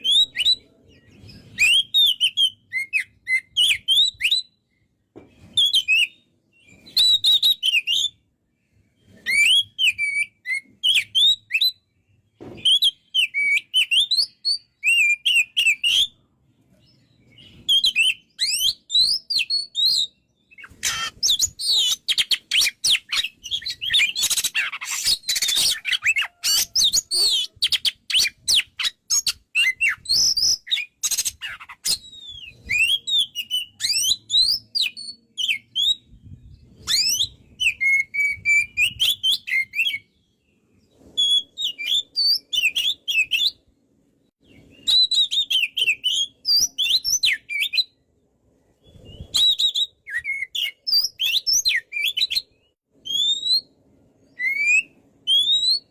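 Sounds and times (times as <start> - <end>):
magpie-robin singing: 0.0 - 4.6, 5.4 - 8.2, 9.0 - 16.2, 16.8 - 43.6, 44.4 - 48.0, 48.8 - 55.9.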